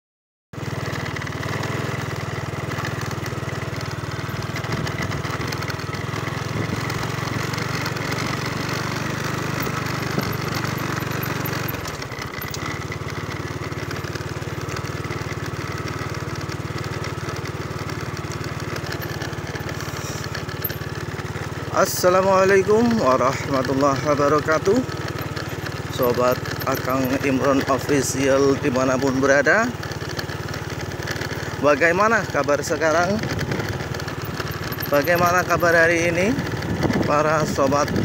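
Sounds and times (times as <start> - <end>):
motorcycle engine running: 0.6 - 38.0.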